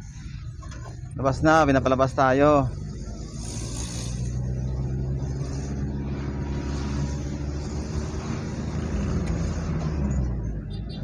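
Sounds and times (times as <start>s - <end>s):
car engine humming: 0.0s - 11.0s
road noise: 0.0s - 11.0s.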